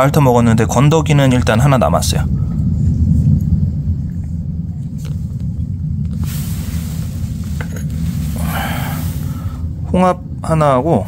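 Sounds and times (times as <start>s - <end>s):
steady low rumble: 0.0s - 11.0s
soft hiss: 0.1s - 11.0s.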